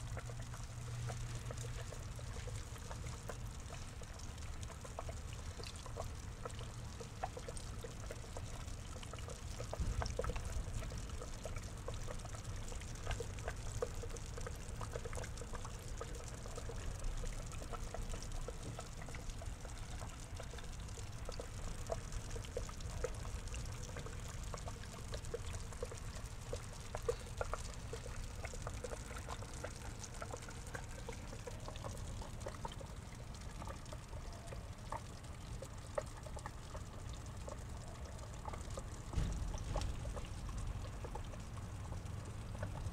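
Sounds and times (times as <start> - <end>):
water splashing into pond underwater: 0.0 - 42.9.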